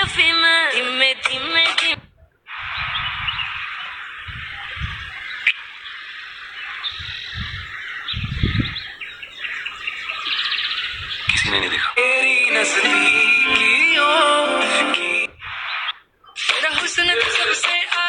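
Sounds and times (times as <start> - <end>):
many birds chirping: 2.5 - 17.6.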